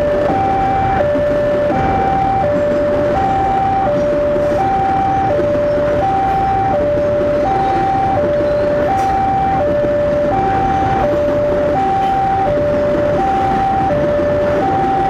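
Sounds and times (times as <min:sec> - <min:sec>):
train wagons rumbling: 0:00.0 - 0:15.0
two-tone warning alarm chime: 0:00.0 - 0:15.0.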